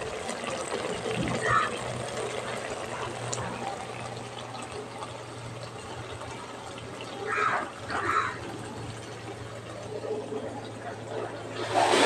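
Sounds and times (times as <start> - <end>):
curry bubbling and sizzling: 0.0 - 12.0.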